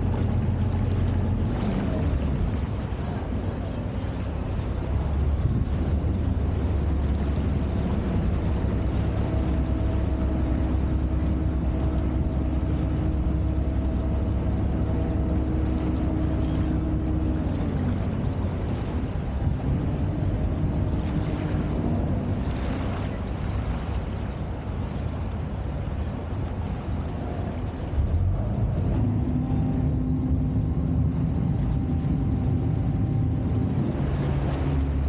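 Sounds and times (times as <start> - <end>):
motorboat engine drone: 0.0 - 35.0
rushing water: 0.0 - 35.0
wind on microphone: 0.0 - 35.0.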